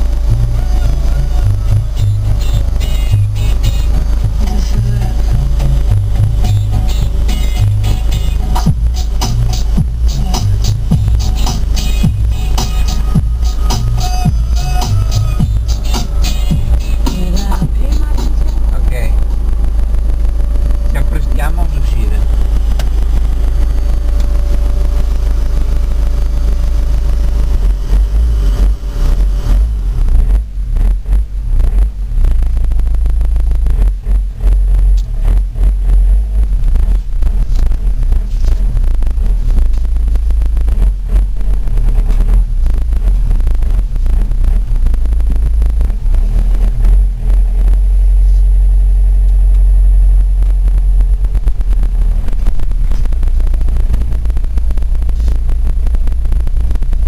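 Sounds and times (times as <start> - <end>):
engine hum: 0.0 - 57.0
vehicle cab low rumble: 0.0 - 57.0.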